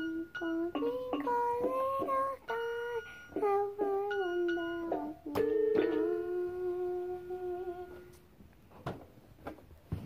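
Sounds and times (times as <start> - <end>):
girl singing wordless tune: 0.0 - 8.3.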